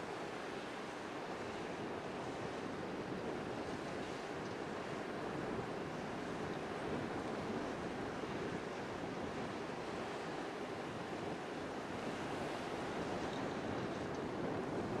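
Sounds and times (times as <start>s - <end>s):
sea surf rushing: 0.0s - 15.0s
wind: 0.0s - 15.0s.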